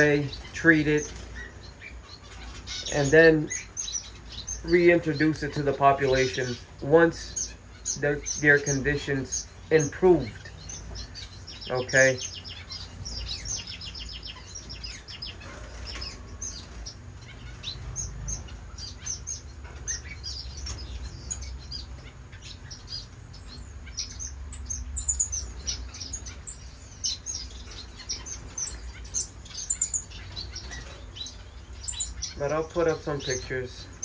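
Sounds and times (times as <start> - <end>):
finches chirping and peeping: 0.0 - 34.0.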